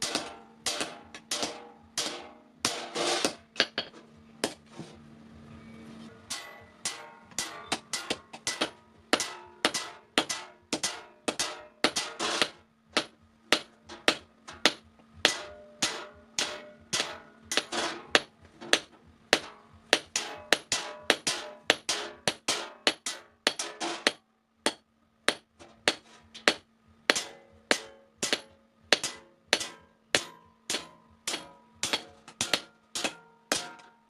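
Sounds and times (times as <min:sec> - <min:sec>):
hammer striking steel on anvil: 0:00.0 - 0:04.6, 0:06.1 - 0:34.0.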